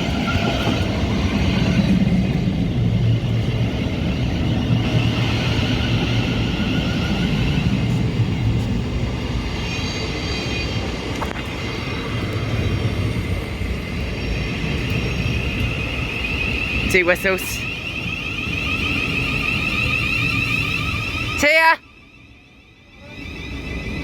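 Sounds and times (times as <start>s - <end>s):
electric train rumble and whine: 0.0s - 24.0s.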